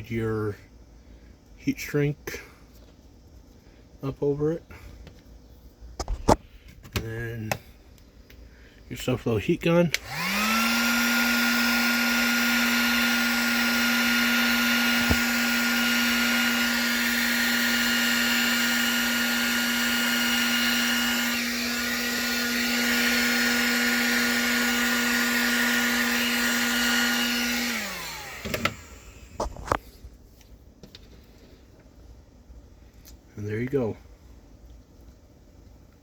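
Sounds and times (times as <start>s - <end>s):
heat gun fan hum and hiss: 0.0s - 36.0s.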